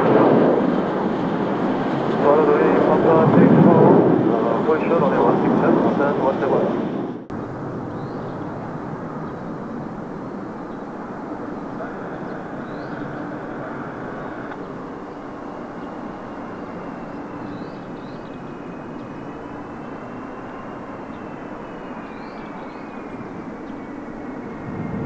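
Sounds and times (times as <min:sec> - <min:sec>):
jet airliner passing: 0:00.0 - 0:25.0.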